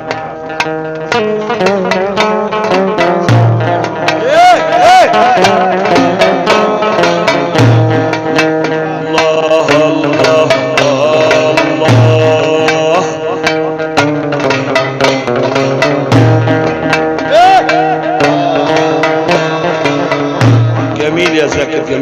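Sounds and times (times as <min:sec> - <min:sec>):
hand drum: 0:00.0 - 0:22.0
plucked strings: 0:00.0 - 0:22.0
sliding melody: 0:00.0 - 0:22.0.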